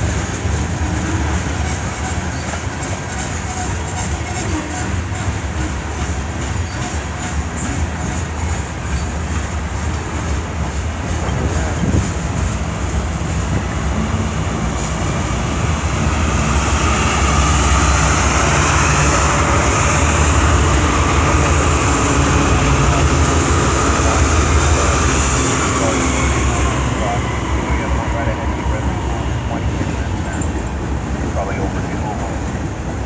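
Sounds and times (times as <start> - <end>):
diesel locomotive rumble: 0.0 - 33.0
train wheels on rails: 0.0 - 33.0.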